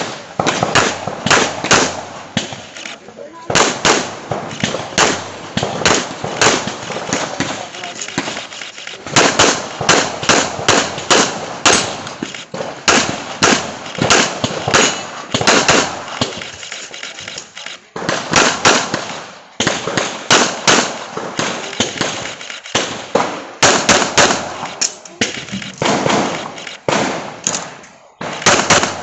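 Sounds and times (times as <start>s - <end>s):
handgun shots in rapid strings: 3.6s - 17.5s, 19.6s - 29.0s.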